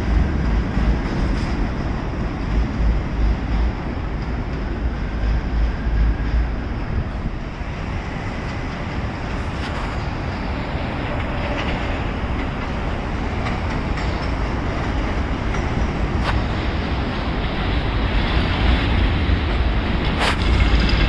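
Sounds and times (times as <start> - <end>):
subway train rail rumble: 0.0 - 21.0
wheels clicking on rails: 0.0 - 21.0.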